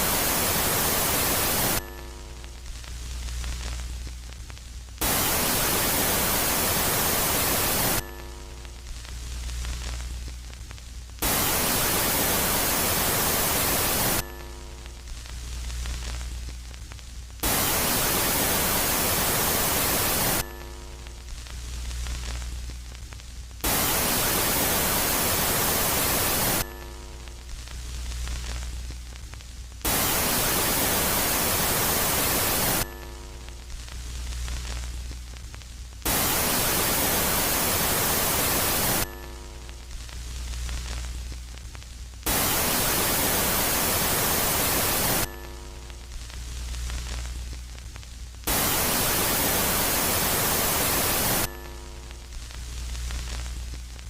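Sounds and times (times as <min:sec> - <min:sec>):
harsh static hiss: 0:00.0 - 0:54.0
low electronic hum with held tones: 0:00.0 - 0:54.0.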